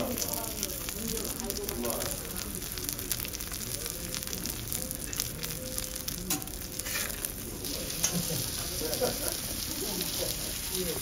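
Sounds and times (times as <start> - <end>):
steak sizzling on a griddle: 0.0 - 11.0.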